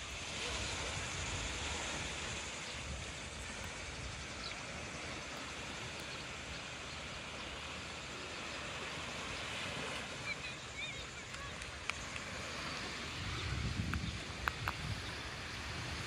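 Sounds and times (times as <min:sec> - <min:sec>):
small waves washing onto shore: 0:00.0 - 0:16.0.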